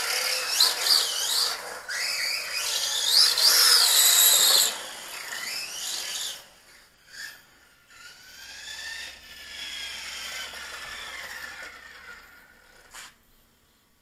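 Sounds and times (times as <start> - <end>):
tyre noise on pavement: 0.0 - 7.3, 8.7 - 13.2
electric motor whining: 0.0 - 13.0.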